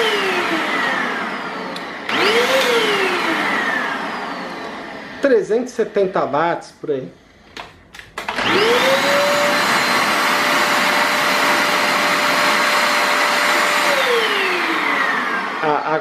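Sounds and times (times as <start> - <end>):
vacuum cleaner motor whining: 0.0 - 6.0, 8.0 - 16.0.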